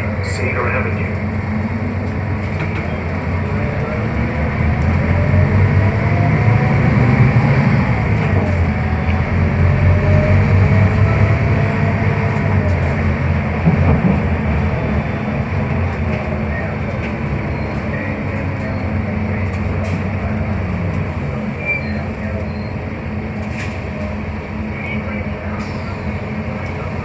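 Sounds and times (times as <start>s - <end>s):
bus drivetrain rumble: 0.0s - 27.0s.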